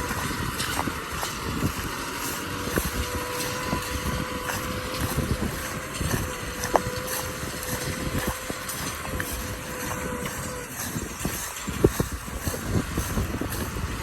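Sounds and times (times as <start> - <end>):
tractor diesel engine running: 0.0 - 14.0
wind on microphone: 0.0 - 14.0.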